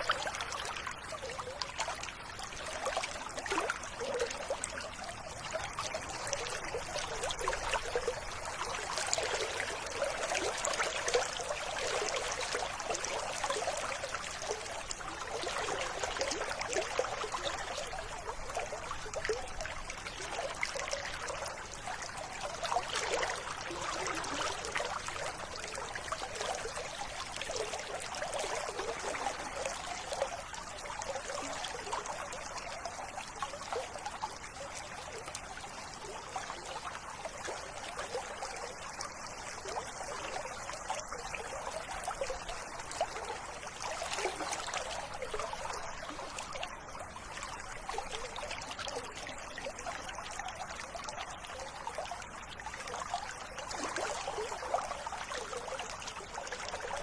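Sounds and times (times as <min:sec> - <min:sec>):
river water trickling: 0:00.0 - 0:57.0.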